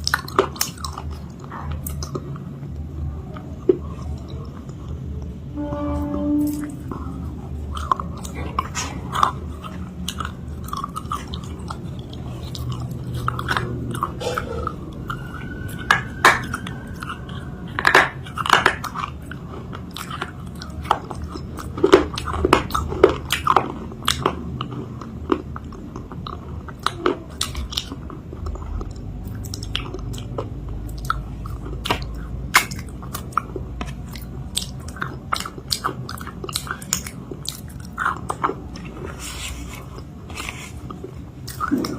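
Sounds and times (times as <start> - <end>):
biting and chewing cake: 0.0 - 5.4, 6.8 - 41.9.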